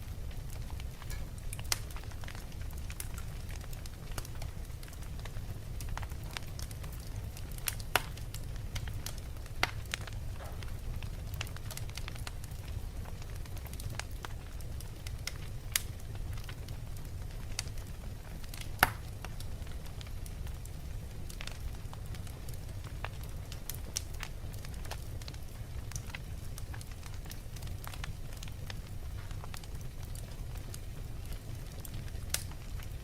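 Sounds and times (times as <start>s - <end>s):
crackles and pops of burning logs: 0.0s - 33.0s
low rumble of fire: 0.0s - 33.0s.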